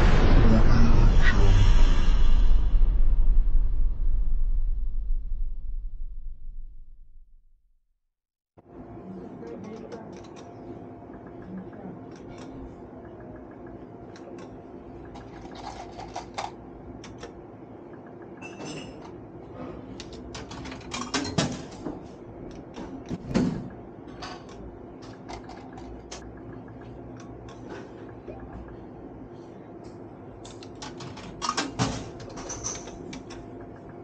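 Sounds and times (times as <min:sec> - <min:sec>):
steady electrical hum: 0:00.0 - 0:04.2, 0:08.6 - 0:34.0.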